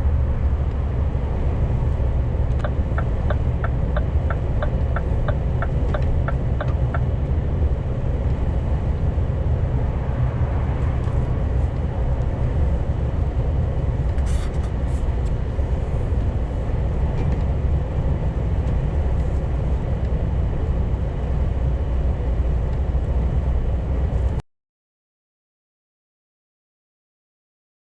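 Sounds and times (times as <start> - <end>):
truck engine and road rumble: 0.0 - 24.4.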